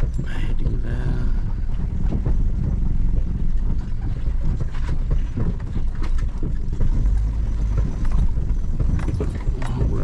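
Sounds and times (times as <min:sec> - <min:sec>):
car driving over rough dirt road: 0:00.0 - 0:10.0
car knocks and rattles: 0:00.0 - 0:10.0.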